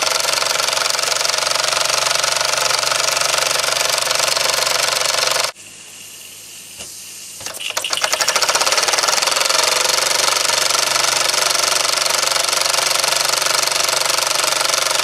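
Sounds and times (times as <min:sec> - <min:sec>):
model steam engine chuffing: 0:00.0 - 0:05.5, 0:07.6 - 0:15.0.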